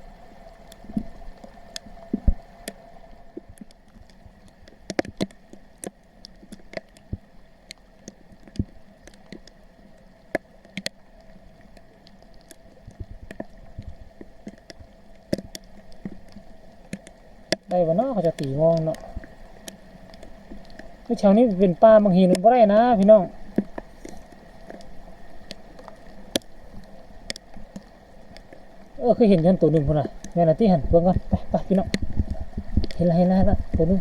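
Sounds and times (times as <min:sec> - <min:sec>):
faint steady hum: 0:00.0 - 0:34.0
small water splashes and drips: 0:00.0 - 0:34.0.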